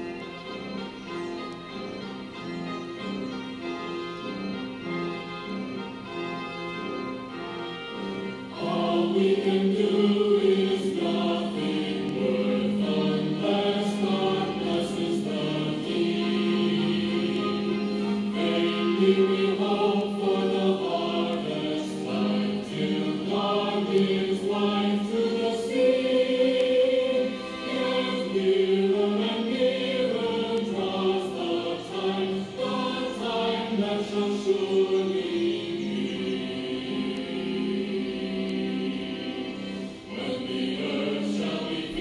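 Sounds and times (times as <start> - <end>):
choir singing slow melody: 0.0 - 0.9, 7.2 - 42.0.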